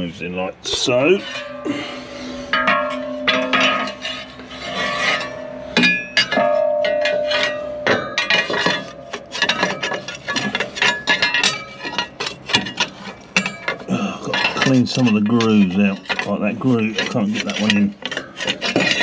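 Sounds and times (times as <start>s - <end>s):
metal knives clinking and scraping: 1.0s - 19.0s
metal ringing from strikes: 1.1s - 12.8s, 13.4s - 17.8s.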